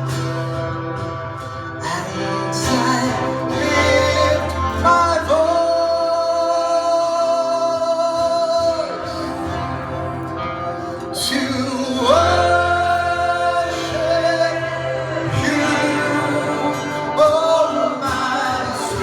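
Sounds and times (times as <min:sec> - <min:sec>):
worship singing with instruments: 0:00.0 - 0:19.0.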